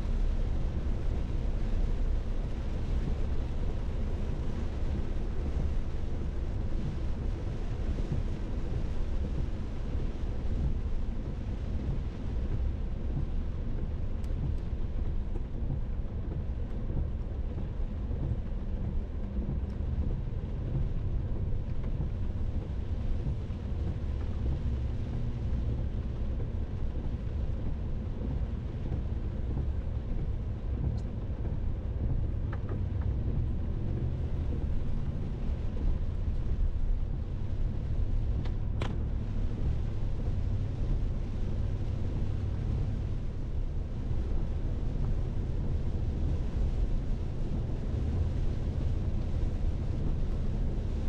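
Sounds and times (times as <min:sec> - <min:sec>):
rainstorm rumble and hiss: 0:00.0 - 0:51.0.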